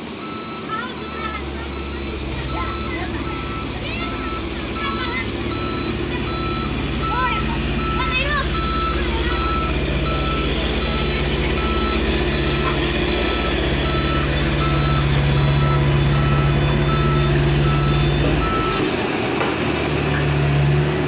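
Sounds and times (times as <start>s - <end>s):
diesel engine drone: 0.0s - 21.0s
reversing alarm beeping: 0.1s - 21.0s.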